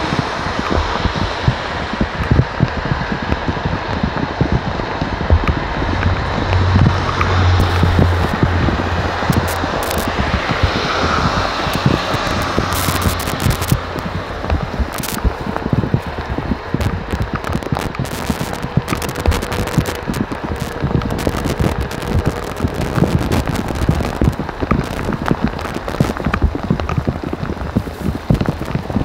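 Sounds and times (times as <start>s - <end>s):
low rumble: 0.0s - 29.0s
rain hiss: 0.0s - 29.0s
raindrops pattering: 0.0s - 29.0s.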